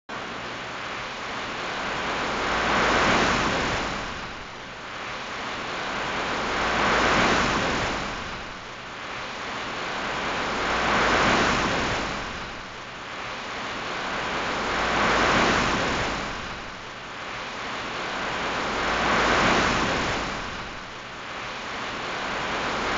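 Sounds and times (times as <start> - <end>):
sea waves washing in: 0.1 - 22.9.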